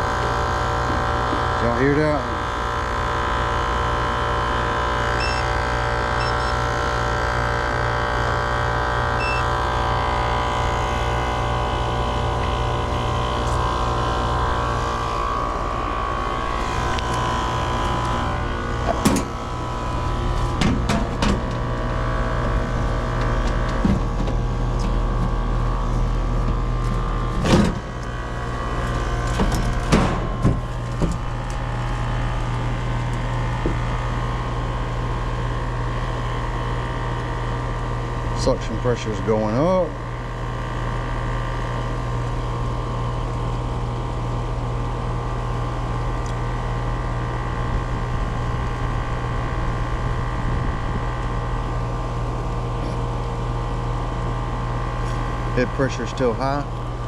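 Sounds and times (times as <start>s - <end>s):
air conditioner humming: 0.0s - 57.0s.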